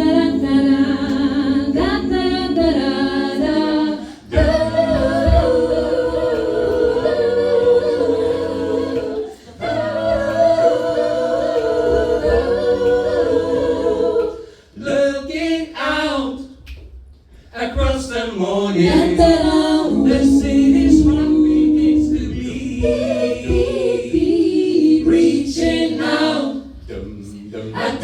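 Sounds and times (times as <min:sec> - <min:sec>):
a cappella group singing harmonies: 0:00.0 - 0:28.0.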